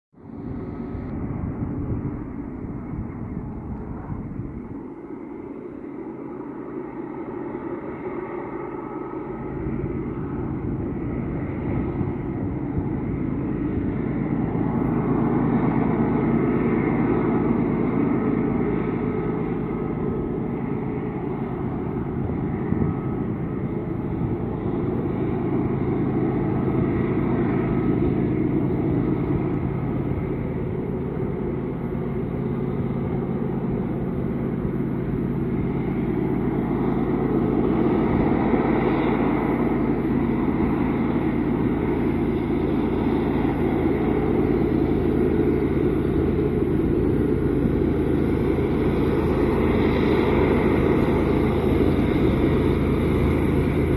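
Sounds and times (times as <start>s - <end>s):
diesel locomotive engine drone: 0.1s - 53.9s.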